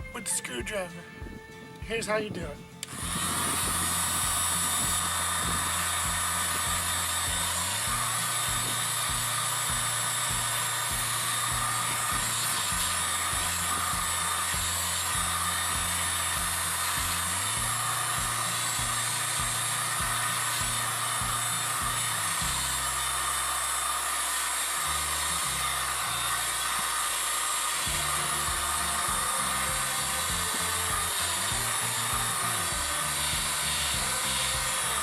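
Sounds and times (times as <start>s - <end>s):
background music with kick beat: 0.0s - 23.3s, 27.8s - 35.0s
heat gun blowing hot air: 1.2s - 35.0s.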